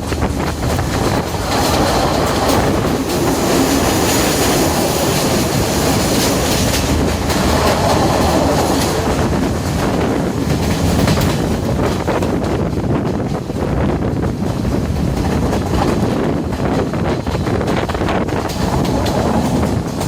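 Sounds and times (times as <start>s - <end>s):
train wheels clattering on rails: 0.0s - 20.0s.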